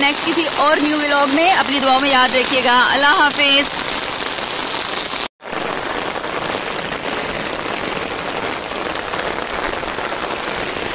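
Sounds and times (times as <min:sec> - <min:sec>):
steady rain falling: 0:00.0 - 0:10.9.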